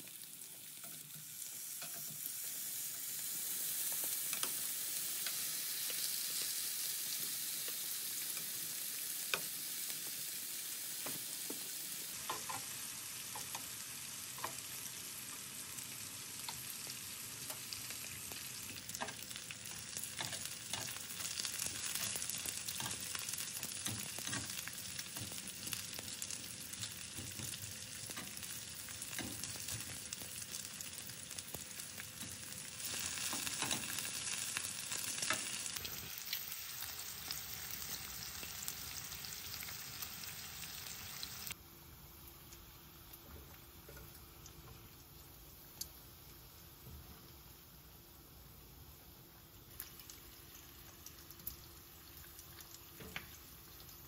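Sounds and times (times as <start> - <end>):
food frying sizzle: 0.0 - 54.0.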